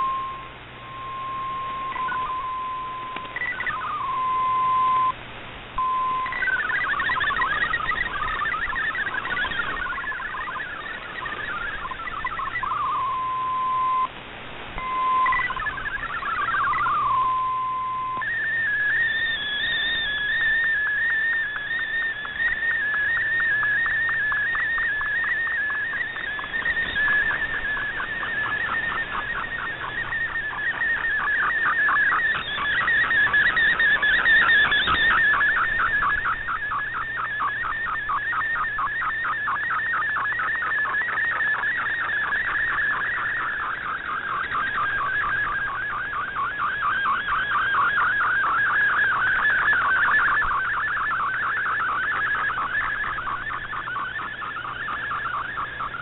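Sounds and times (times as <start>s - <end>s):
shortwave hiss: 0.0s - 56.0s
warbling data tone: 0.0s - 56.0s.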